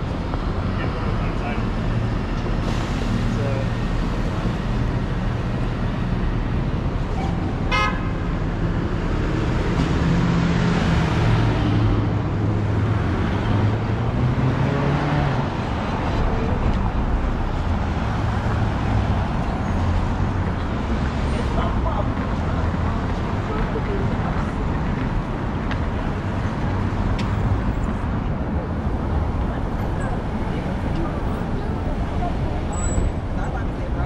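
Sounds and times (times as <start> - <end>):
city street traffic: 0.0 - 34.0.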